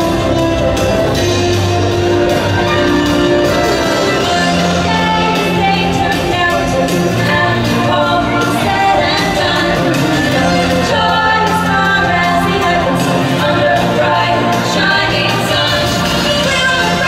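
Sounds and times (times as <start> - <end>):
show music with singing: 0.0 - 17.0.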